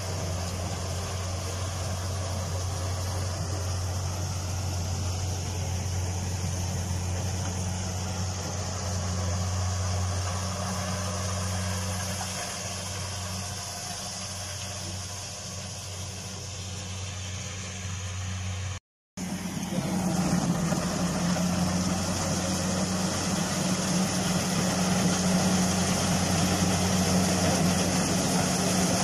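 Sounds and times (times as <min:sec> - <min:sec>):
harvester engine droning: 0:00.0 - 0:29.0.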